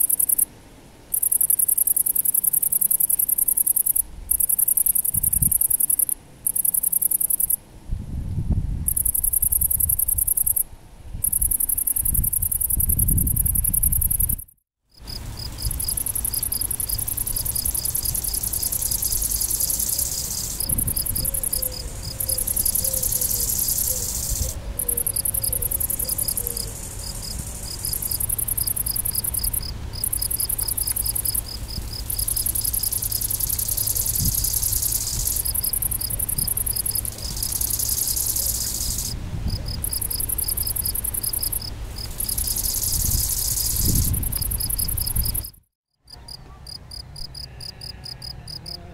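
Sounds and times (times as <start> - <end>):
bush-cricket buzzing: 0.0 - 0.5, 1.1 - 7.6, 8.9 - 10.6, 11.2 - 45.6, 46.9 - 48.8
field cricket chirping: 0.0 - 0.5, 1.1 - 7.6, 8.9 - 45.6, 46.7 - 48.8.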